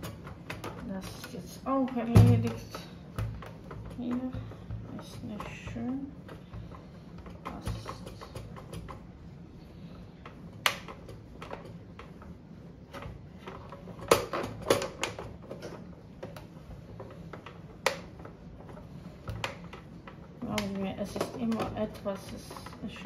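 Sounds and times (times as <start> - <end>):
plastic parts clicking and knocking: 0.0 - 9.1, 10.2 - 12.3, 12.9 - 23.0.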